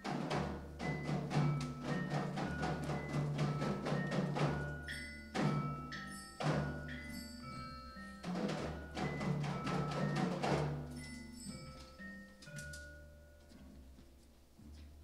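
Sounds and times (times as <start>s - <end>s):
ringing mallet-instrument tones: 0.2s - 13.6s.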